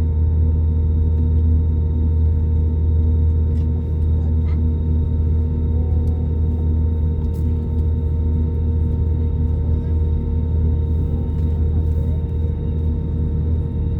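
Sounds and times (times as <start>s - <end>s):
aircraft cabin engine drone: 0.0s - 13.9s.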